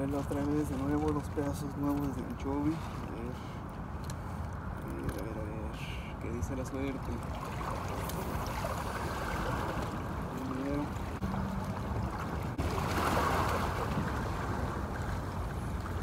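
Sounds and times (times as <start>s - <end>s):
seawater lapping at shore: 0.0s - 16.0s.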